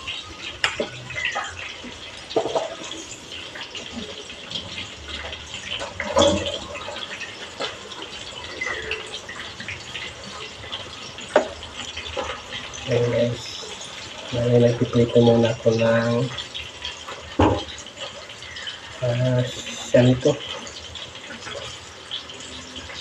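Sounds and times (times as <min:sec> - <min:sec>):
water splashing and trickling: 0:00.0 - 0:23.0.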